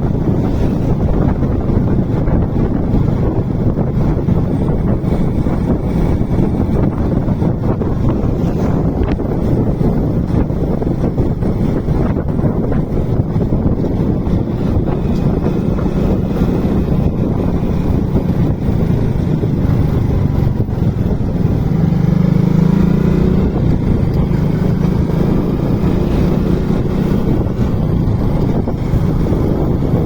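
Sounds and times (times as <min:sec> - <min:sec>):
motorcycle engine running: 0:00.0 - 0:30.0
wind rumble on microphone: 0:00.0 - 0:30.0.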